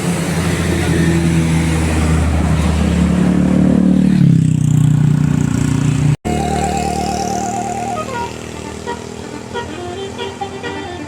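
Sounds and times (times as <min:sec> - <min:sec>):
bus engine running hard: 0:00.0 - 0:11.0.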